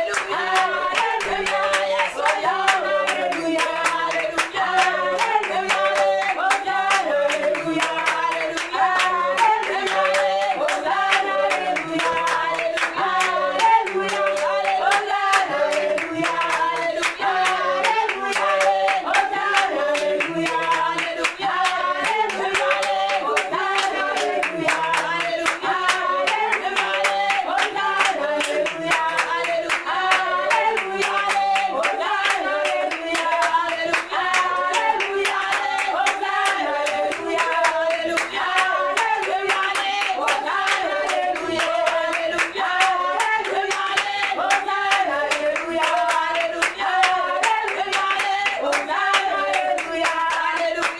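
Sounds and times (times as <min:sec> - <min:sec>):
congregation singing: 0:00.0 - 0:50.9
hands clapping in rhythm: 0:00.0 - 0:50.9.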